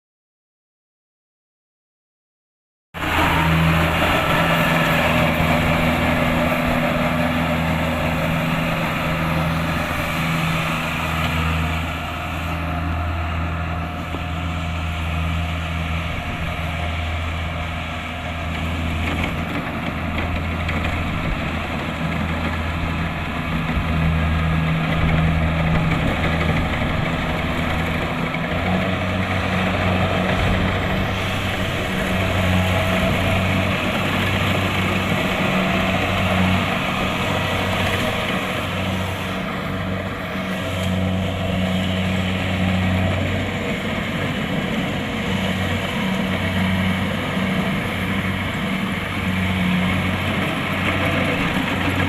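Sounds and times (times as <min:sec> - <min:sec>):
diesel engine running: 0:03.0 - 0:52.0
harvester machinery working: 0:03.0 - 0:52.0.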